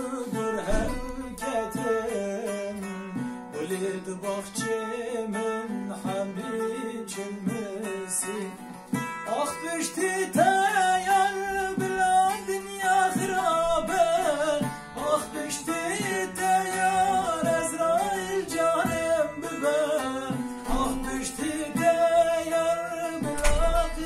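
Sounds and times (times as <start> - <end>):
long-necked lute strummed: 0.0 - 24.0
man singing folk melody: 0.0 - 24.0.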